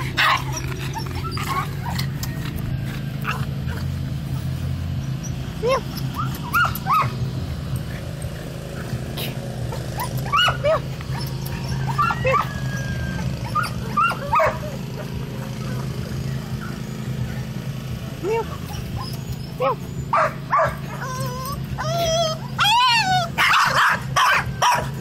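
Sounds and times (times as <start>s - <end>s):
small dogs barking: 0.0s - 25.0s.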